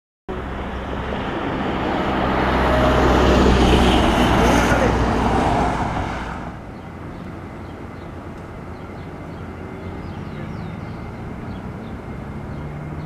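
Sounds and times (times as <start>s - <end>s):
distant jet engine rumble: 0.3s - 13.0s.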